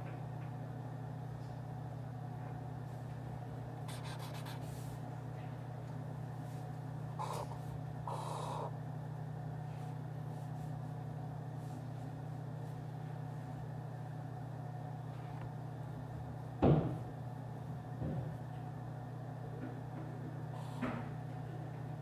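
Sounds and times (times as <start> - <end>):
office room tone hum: 0.0 - 22.0.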